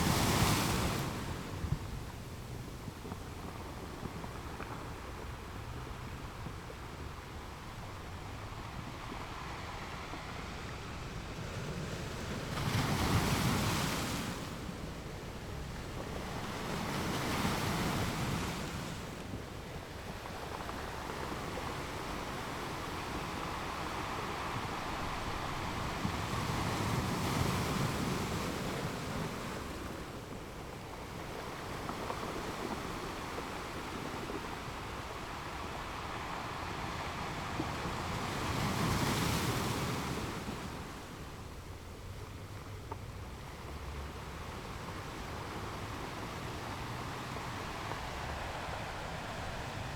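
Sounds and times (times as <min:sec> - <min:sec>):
sea waves washing ashore: 0:00.0 - 0:49.9.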